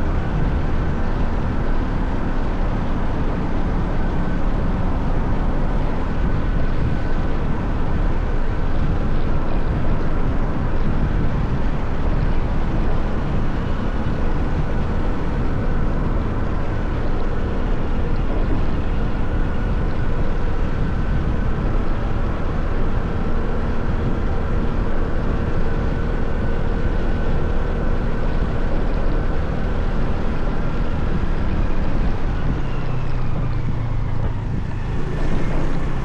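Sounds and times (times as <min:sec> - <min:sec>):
motorcycle engine rumble: 0:00.0 - 0:36.0.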